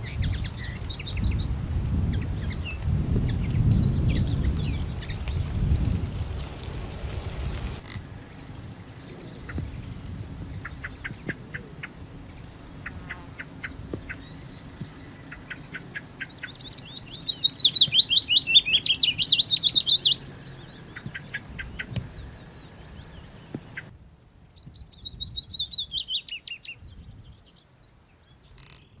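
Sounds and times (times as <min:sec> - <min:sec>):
warbler singing: 0:00.0 - 0:29.0.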